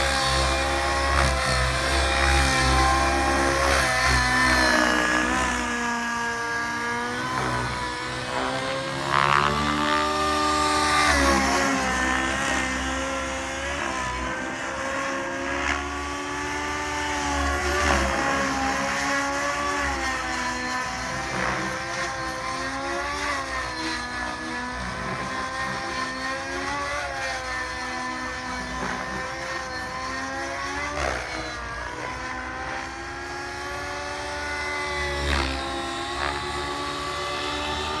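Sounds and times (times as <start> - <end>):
rc helicopter engine and rotor: 0.0 - 38.0.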